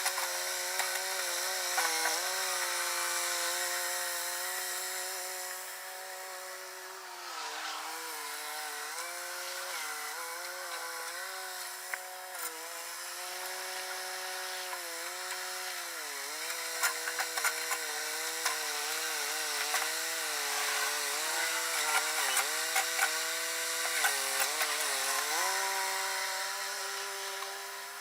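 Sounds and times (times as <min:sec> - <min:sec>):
chainsaw running at high revs: 0:00.0 - 0:28.0.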